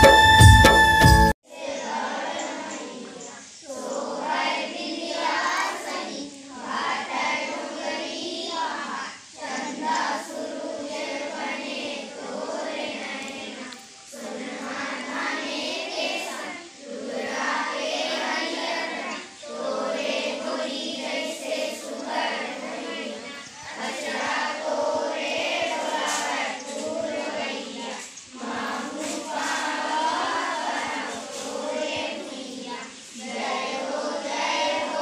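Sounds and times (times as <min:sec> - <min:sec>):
children singing in chorus: 0:00.0 - 0:35.0.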